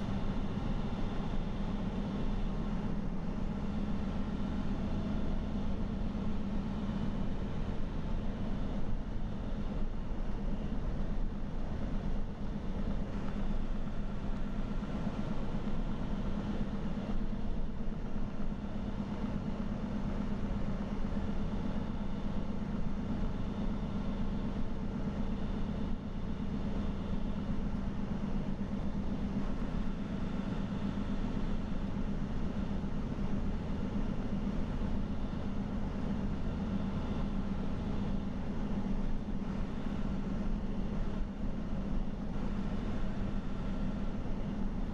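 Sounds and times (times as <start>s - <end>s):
truck engine drone: 0.0s - 44.9s.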